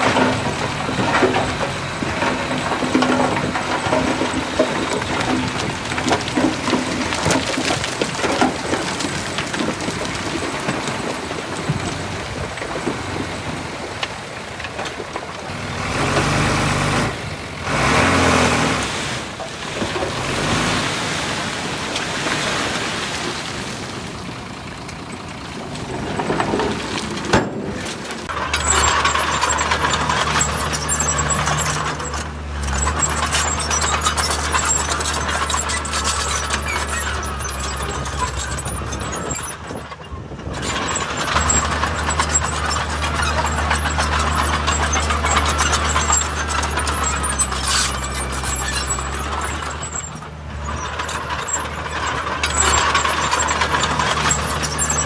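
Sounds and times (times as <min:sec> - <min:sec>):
diesel earthmoving machinery: 0:00.0 - 0:55.0.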